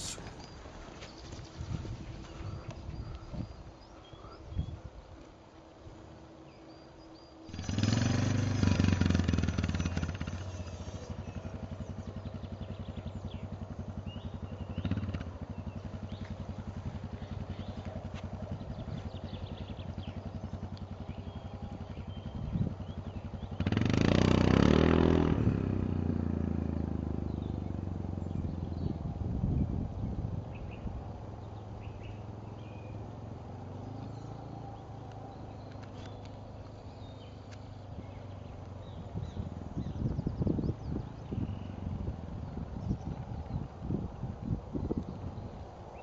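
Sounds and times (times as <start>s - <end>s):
engine running with pulsing beat: 6.1s - 45.6s.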